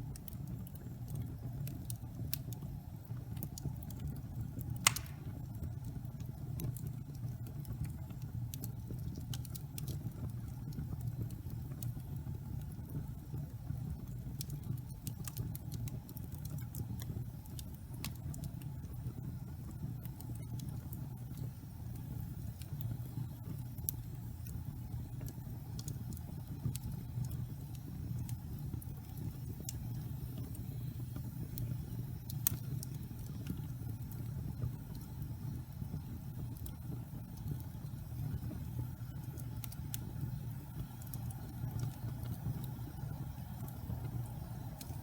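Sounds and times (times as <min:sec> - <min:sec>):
low rumble of flames: 0:00.0 - 0:45.0
wood crackling and popping: 0:00.0 - 0:45.0.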